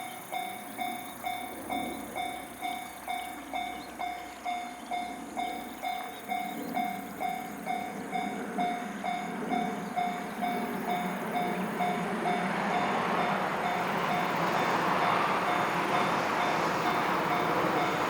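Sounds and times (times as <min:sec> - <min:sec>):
railroad crossing bell ringing: 0:00.0 - 0:18.0
train rumble: 0:00.0 - 0:18.0.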